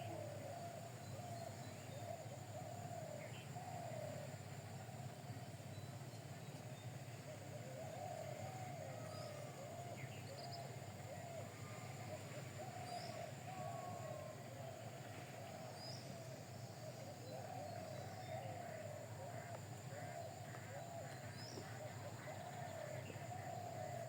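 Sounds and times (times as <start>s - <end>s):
birds calling: 0.0s - 24.0s
faint steady hum: 0.0s - 24.0s.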